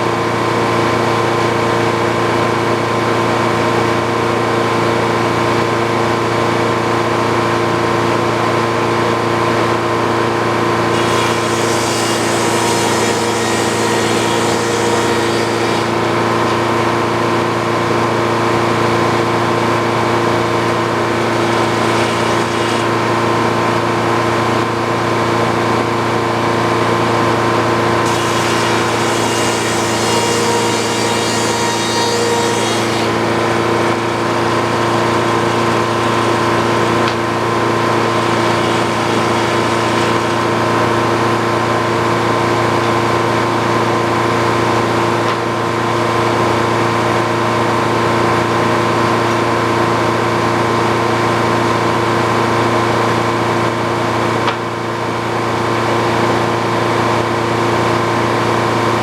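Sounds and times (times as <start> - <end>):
sawmill running: 0.0 - 59.0.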